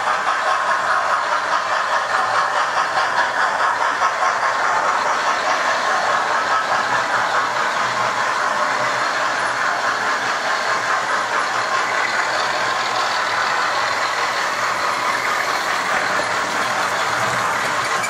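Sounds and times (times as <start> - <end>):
model trains whirring on rails: 0.0 - 18.0.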